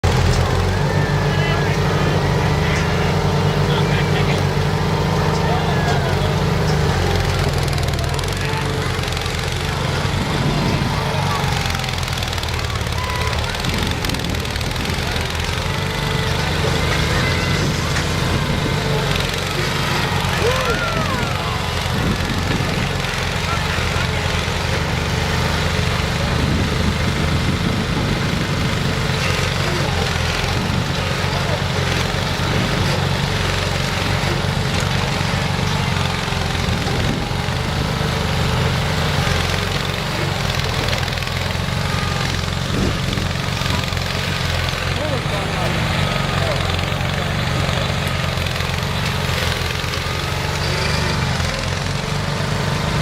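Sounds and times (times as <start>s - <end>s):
machine engine pulsing rumble: 0.0s - 53.0s
noisy din: 0.0s - 53.0s.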